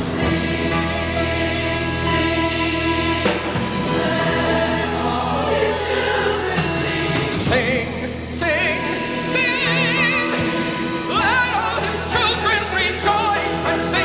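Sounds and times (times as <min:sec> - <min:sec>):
choir singing chords: 0:00.0 - 0:14.0
instrumental accompaniment: 0:00.0 - 0:14.0.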